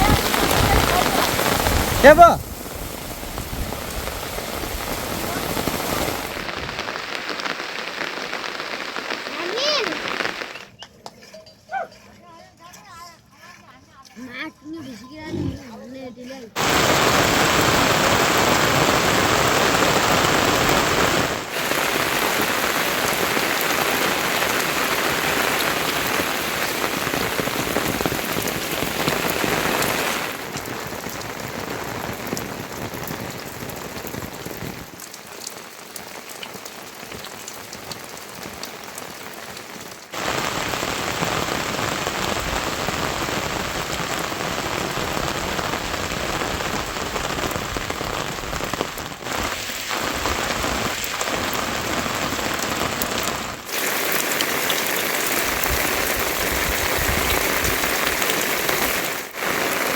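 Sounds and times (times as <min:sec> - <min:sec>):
heavy rain falling: 0:00.0 - 0:10.7, 0:16.6 - 0:59.9.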